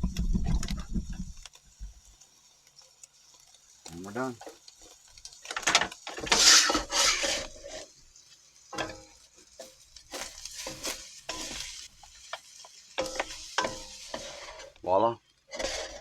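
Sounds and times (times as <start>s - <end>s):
utensil scraping in a wok: 1.0s - 16.0s.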